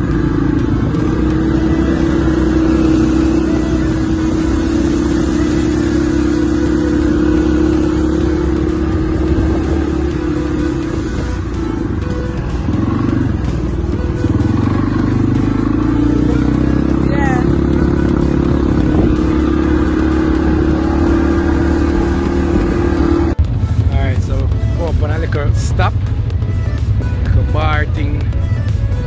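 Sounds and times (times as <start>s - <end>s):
quad bike engine running: 0.0s - 29.0s
rattle over bumpy trail: 0.0s - 29.0s.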